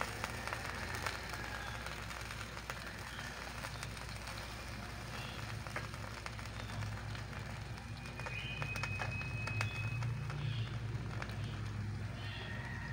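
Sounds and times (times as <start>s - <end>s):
chicken sizzling on grill: 0.0s - 12.9s.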